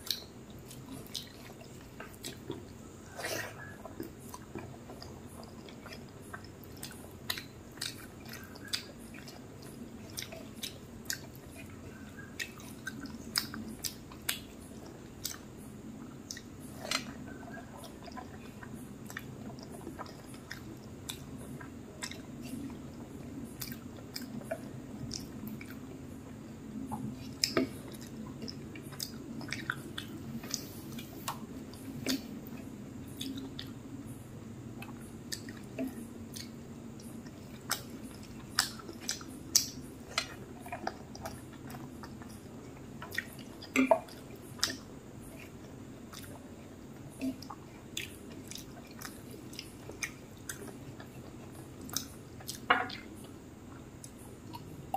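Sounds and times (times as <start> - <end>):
chewing and wet mouth smacks: 0.0 - 33.8, 34.7 - 54.8
faint low hum: 0.0 - 54.9.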